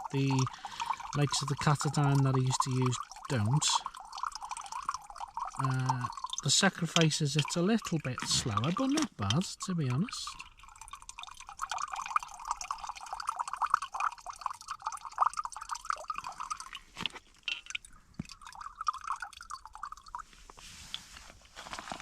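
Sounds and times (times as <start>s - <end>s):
water trickling into a container: 0.0s - 22.0s.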